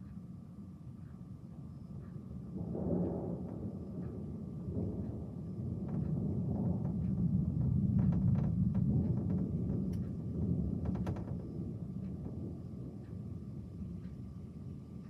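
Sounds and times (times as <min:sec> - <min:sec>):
faint clicks: 0:02.0 - 0:14.4
low rolling thunder: 0:02.0 - 0:15.0.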